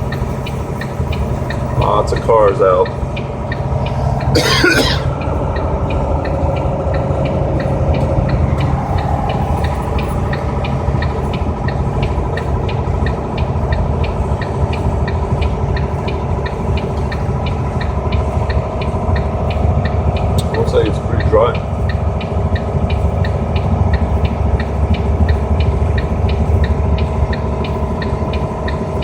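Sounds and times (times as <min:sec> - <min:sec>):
car engine and road noise: 0:00.0 - 0:29.0
rapid even ticking: 0:00.0 - 0:29.0.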